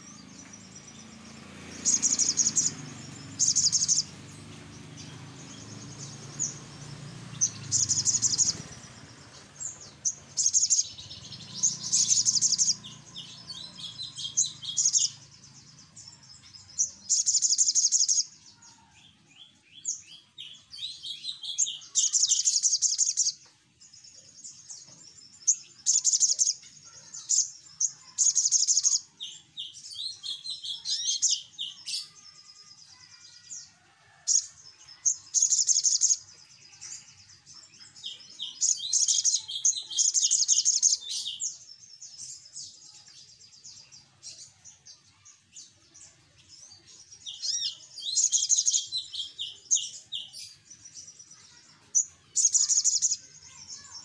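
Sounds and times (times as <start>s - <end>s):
soft bird twittering: 0.0s - 34.2s, 35.0s - 54.0s
sunbird chirps and trills: 0.0s - 54.0s.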